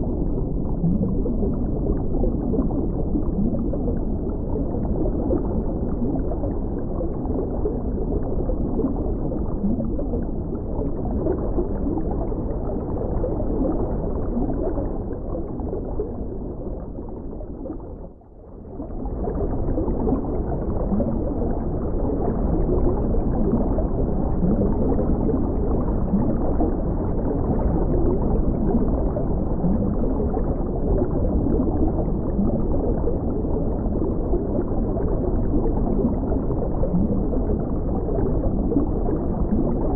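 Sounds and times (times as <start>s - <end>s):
muffled underwater bubbling: 0.0s - 39.9s.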